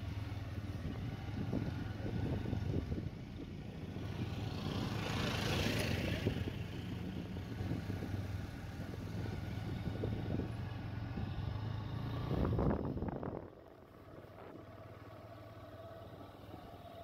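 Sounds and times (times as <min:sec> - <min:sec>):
road and wind noise: 0:00.0 - 0:17.0
vehicle engine running: 0:00.0 - 0:17.0.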